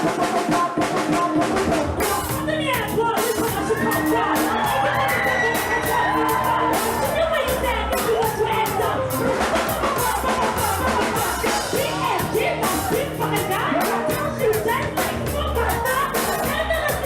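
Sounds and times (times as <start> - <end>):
music with steady beat and bass: 0.0 - 17.0
person singing: 0.0 - 17.0.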